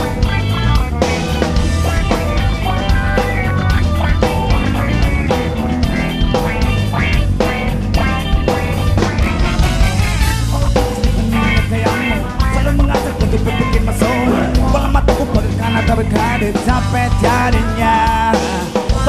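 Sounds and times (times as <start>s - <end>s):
bending melodic line: 0.0s - 18.4s
bass guitar: 0.0s - 19.0s
drum kit: 0.0s - 19.0s
electric guitars: 0.0s - 19.0s.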